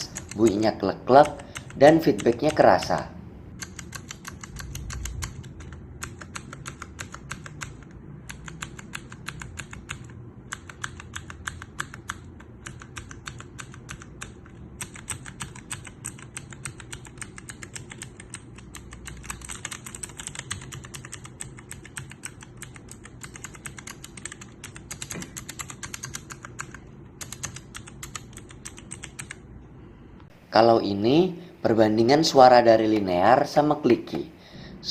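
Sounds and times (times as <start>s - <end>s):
fast mechanical keyboard typing: 0.0s - 29.4s.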